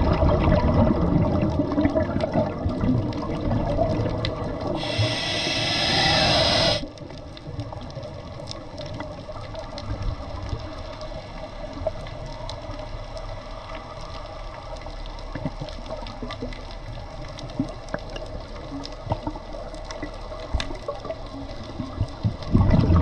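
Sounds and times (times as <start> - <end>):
muffled underwater wash: 0.0 - 23.0.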